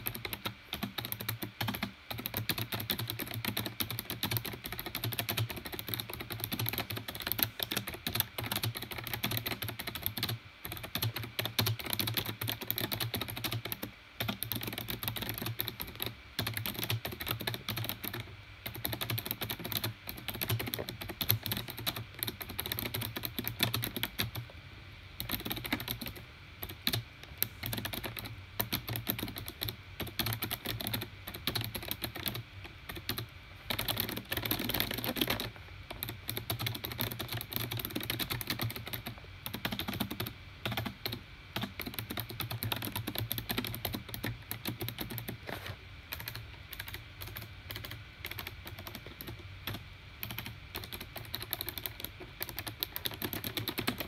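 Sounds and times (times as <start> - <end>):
keyboard typing: 0.0 - 24.5, 25.2 - 54.0.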